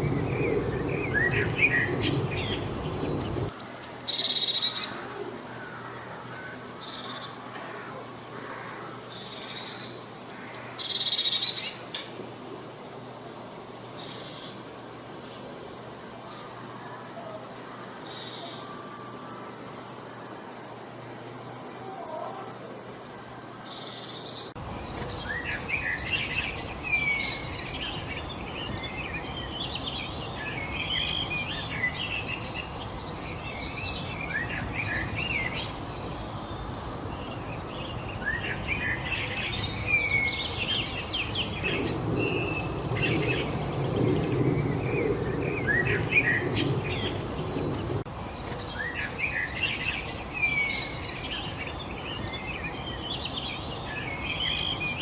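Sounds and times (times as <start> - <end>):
background hiss: 0.0 - 55.0
small birds chirping: 0.0 - 55.0.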